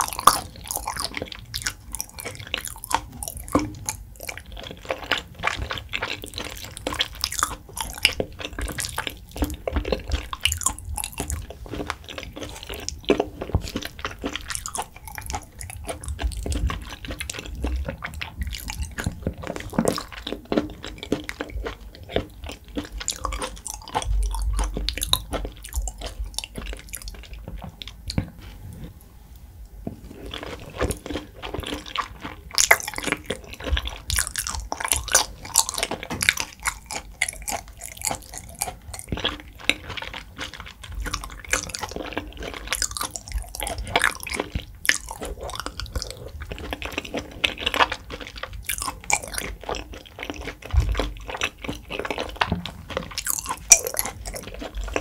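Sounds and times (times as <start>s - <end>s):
person chewing raw meat: 0.0s - 29.0s, 29.9s - 55.0s.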